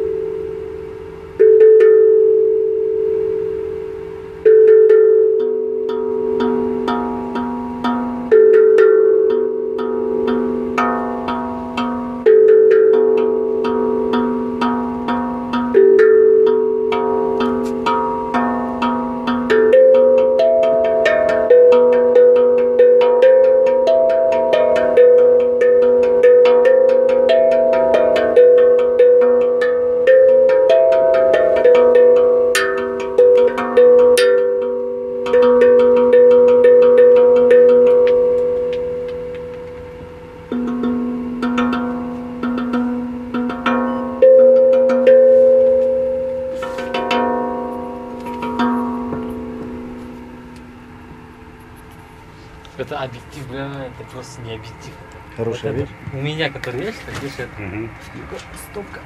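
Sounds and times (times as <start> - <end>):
low ringing tone: 0.0 - 56.9
hand-struck metal percussion melody: 0.0 - 59.0.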